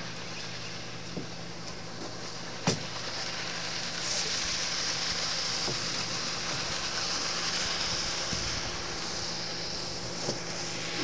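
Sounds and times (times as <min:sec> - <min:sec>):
wind and water hiss: 0:00.0 - 0:11.0.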